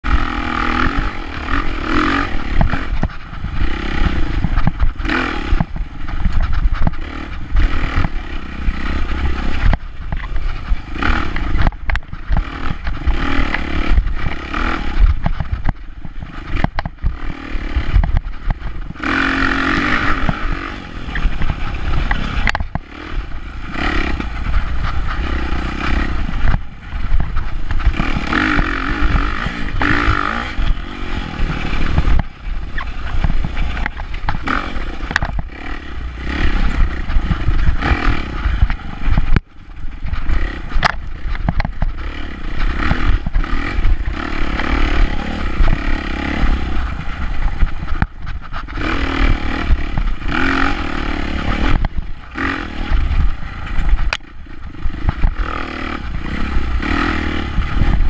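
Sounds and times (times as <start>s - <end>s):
bike knocking and rattling: 0.0s - 58.0s
dirt bike engine revving: 0.0s - 58.0s.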